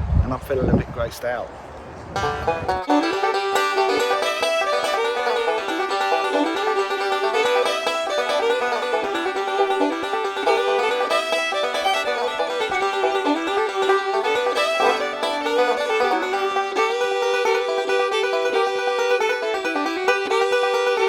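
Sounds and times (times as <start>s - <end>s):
bluegrass tune with banjo: 2.2s - 21.0s.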